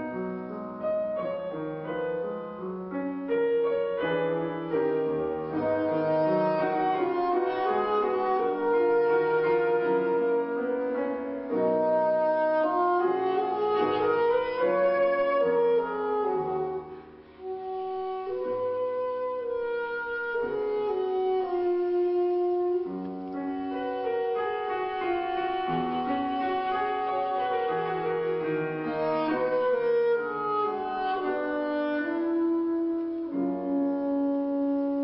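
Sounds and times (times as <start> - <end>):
alto saxophone melody: 0.0 - 35.0
piano accompaniment: 0.0 - 35.0.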